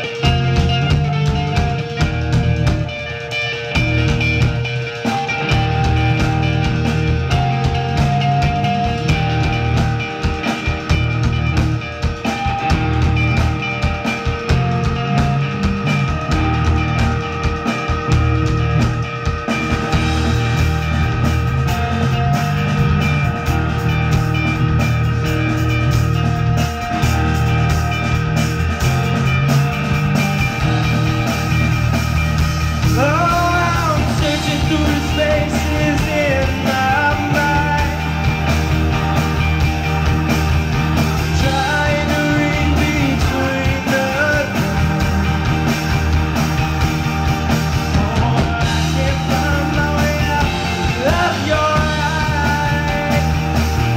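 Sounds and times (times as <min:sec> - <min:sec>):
rock band playing live: 0:00.0 - 0:53.9.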